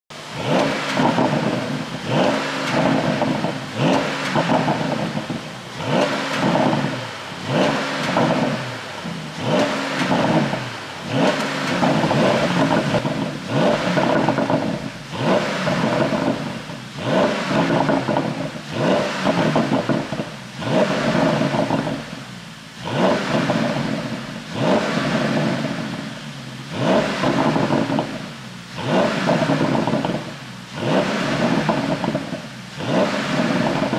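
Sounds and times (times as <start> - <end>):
car engine revving in blips: 0.1 - 33.9
exhaust popping: 0.1 - 33.9.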